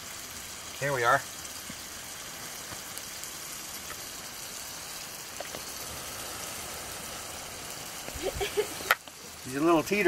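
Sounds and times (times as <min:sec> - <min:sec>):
campfire crackles: 0:00.0 - 0:10.0
food sizzling in a skillet: 0:00.0 - 0:10.0.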